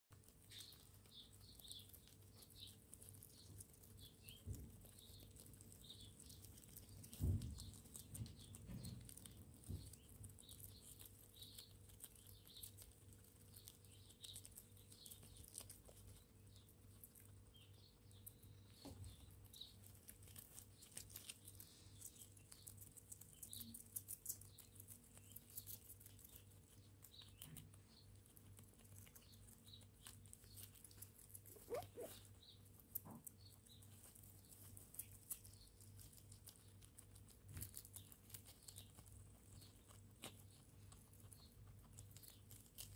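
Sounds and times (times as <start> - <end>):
guinea pigs chewing greens: 0.1 - 42.9.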